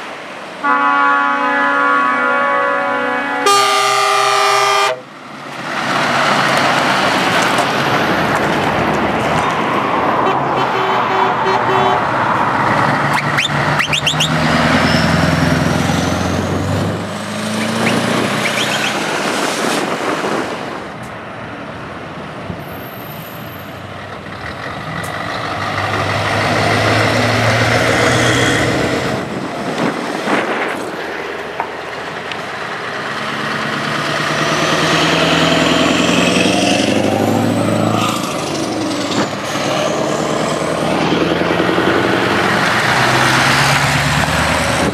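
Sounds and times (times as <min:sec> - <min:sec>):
heavy trucks driving past: 0:00.0 - 0:44.9.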